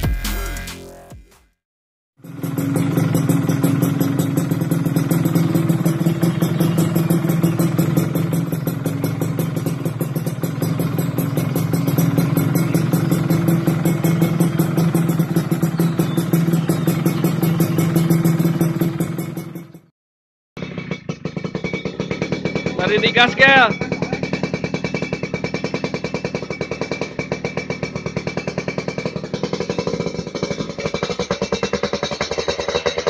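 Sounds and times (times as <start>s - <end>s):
two-stroke engine idling: 2.2s - 19.9s, 20.6s - 33.0s.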